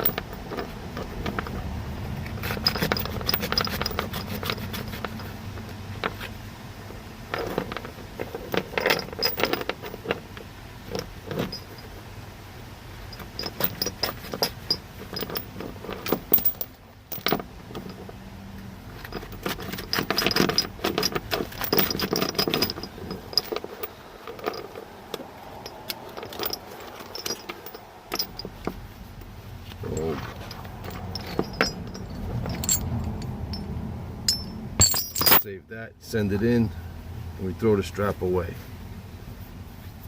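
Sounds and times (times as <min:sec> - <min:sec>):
chain links clinking and rattling: 0:00.0 - 0:12.0, 0:13.0 - 0:18.2, 0:18.9 - 0:36.2.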